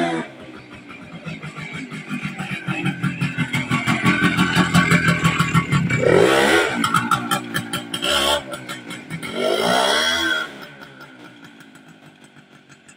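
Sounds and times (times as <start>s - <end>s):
two-stroke motorcycle engine revving: 0.0s - 12.9s.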